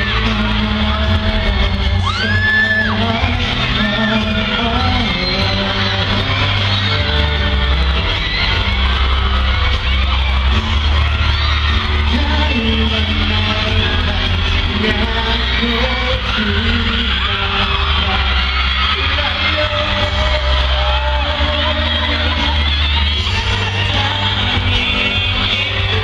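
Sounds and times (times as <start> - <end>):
amplified backing track with bass: 0.0 - 26.0
crowd screaming: 0.0 - 26.0
men singing into microphones: 0.0 - 26.0.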